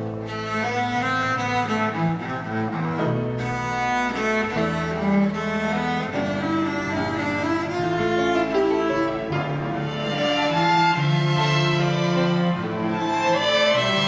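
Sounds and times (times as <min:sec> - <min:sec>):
violin ensemble with cello: 0:00.0 - 0:14.0.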